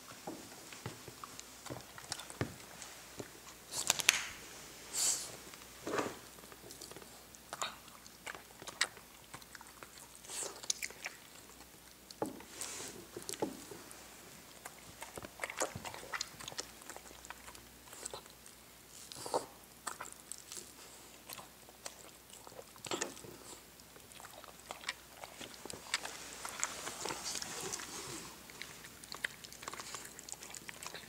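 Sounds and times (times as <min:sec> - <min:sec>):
dog chewing and crunching food: 0:00.0 - 0:31.0.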